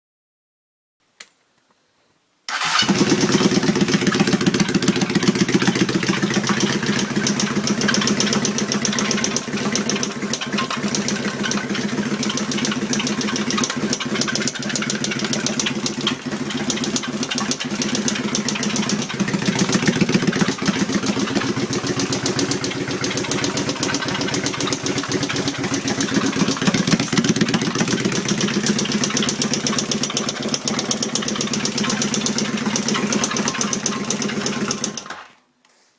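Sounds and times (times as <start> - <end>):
motorcycle engine starting and running: 2.5 - 35.4.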